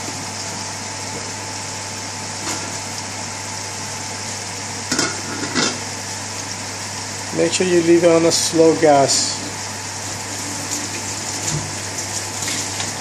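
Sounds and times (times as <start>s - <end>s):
vegetables sizzling in frying pan: 0.0s - 13.0s.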